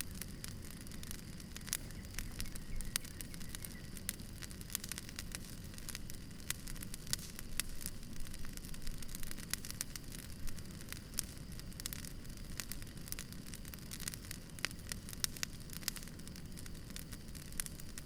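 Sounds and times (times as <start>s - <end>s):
campfire crackling and popping: 0.0s - 18.0s
low rumble and hiss of fire: 0.0s - 18.0s.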